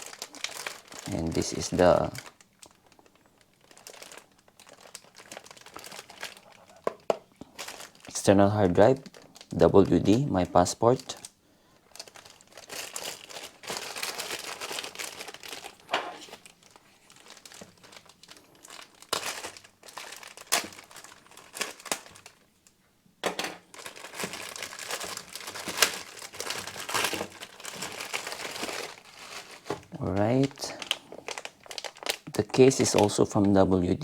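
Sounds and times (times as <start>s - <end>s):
packaging crinkling and rustling: 0.0s - 34.0s.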